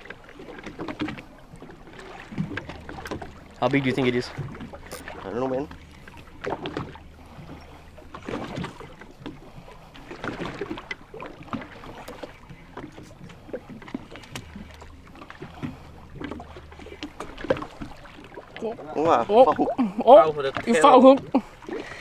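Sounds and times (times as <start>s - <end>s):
boat engine idling: 0.0s - 22.0s
water lapping against boat hull: 0.0s - 22.0s.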